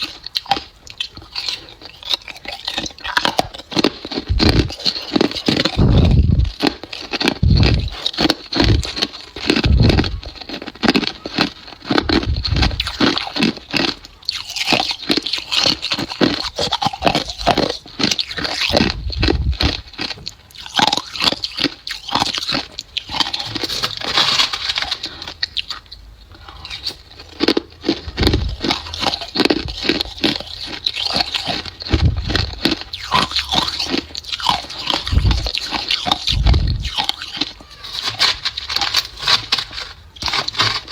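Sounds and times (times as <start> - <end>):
ice crunching while chewed: 0.0 - 40.9.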